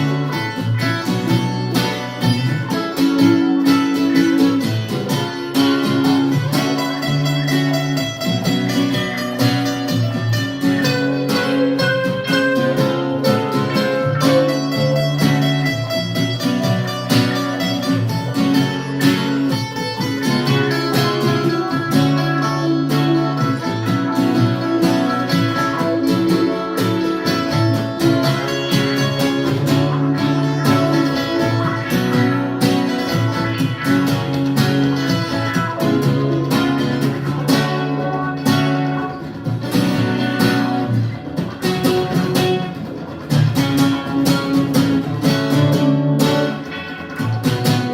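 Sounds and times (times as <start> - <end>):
acoustic guitar strumming chords: 0.0 - 47.9.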